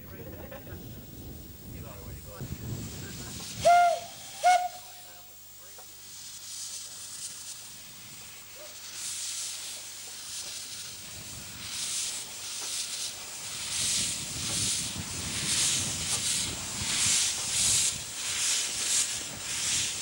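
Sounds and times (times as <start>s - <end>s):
steam locomotive chuffing: 0.6s - 20.0s.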